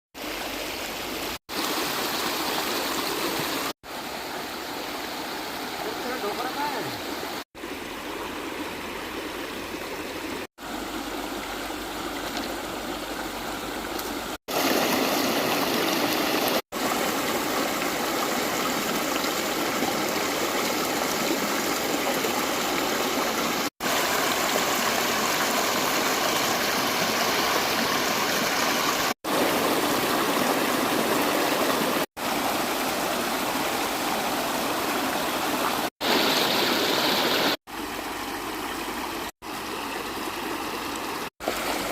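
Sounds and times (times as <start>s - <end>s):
stream water rushing: 0.2s - 41.9s.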